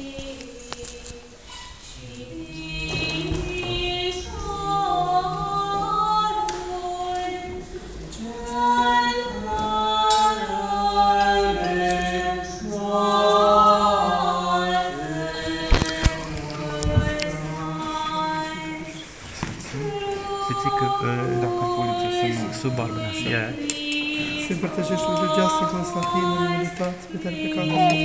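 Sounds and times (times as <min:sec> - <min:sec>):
voices chanting unaccompanied: 0:00.0 - 0:28.0.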